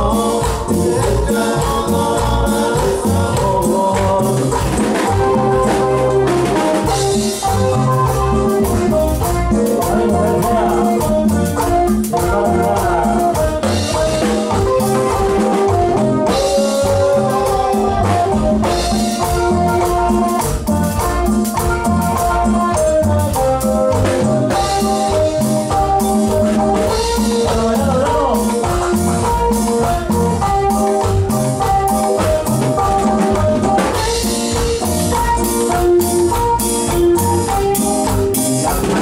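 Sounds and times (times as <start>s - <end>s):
drum kit and hand percussion: 0.0s - 39.0s
electronic keyboard melody: 0.0s - 39.0s.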